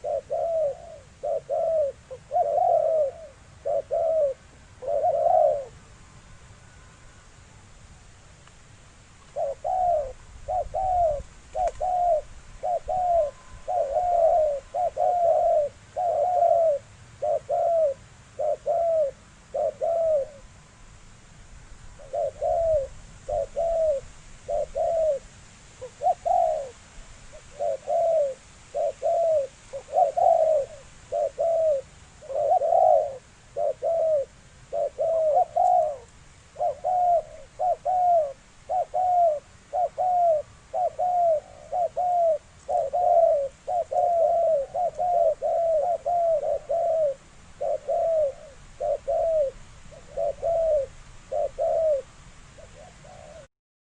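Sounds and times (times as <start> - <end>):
dove cooing: 0.0 - 5.8, 9.3 - 20.5, 22.0 - 53.5.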